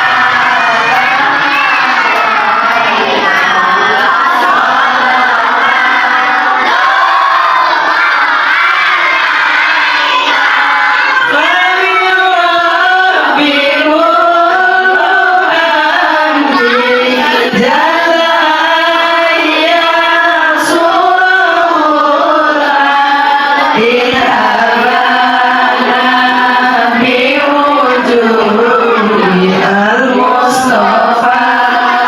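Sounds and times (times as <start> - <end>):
children singing together: 0.0 - 32.0.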